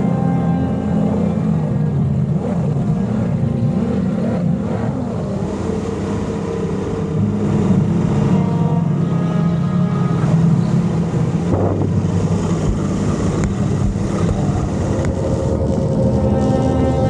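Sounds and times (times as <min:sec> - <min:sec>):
boat outboard engines running: 0:00.0 - 0:17.0.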